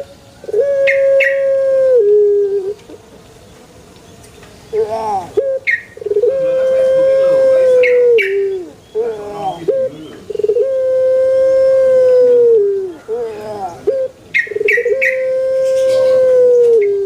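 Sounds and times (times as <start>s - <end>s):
dove cooing call: 0.0s - 3.2s, 4.7s - 17.0s.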